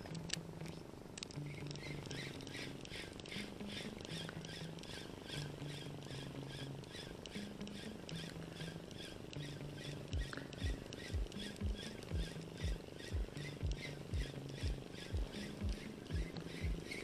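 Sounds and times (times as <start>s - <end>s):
fishing reel whirring: 0.0s - 17.0s
low hum: 0.0s - 17.0s.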